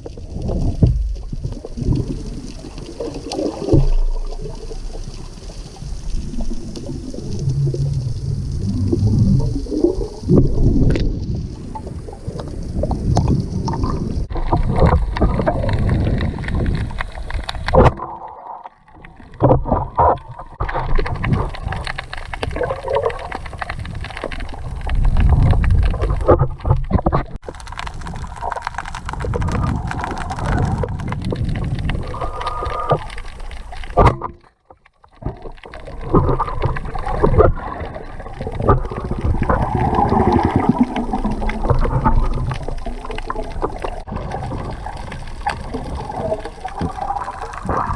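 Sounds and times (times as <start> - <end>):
water sloshing and gurgling: 0.0 - 47.9.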